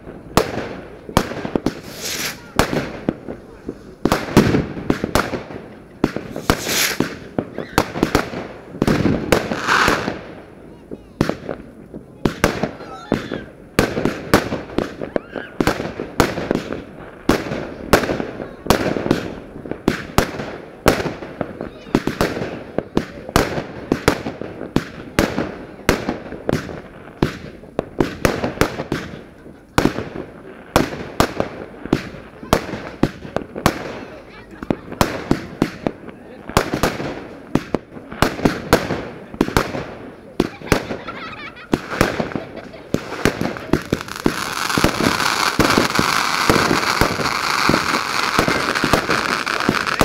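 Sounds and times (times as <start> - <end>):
firework bangs with echo: 0.0 - 50.0.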